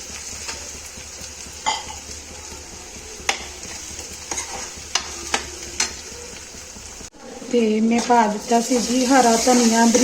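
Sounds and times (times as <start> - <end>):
sizzling in hot oil: 0.0 - 10.0.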